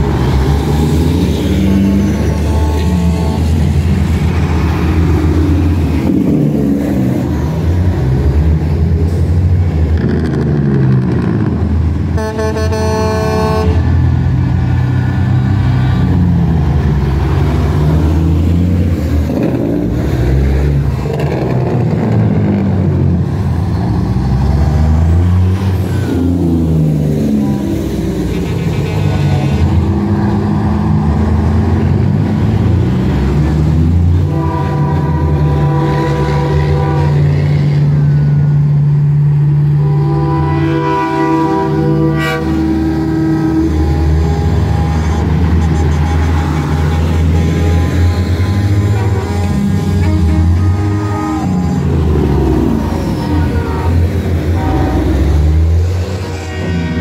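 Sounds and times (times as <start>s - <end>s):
truck horn: 0.0s - 6.4s, 11.2s - 23.4s, 24.3s - 57.0s
truck diesel engines passing: 0.0s - 57.0s.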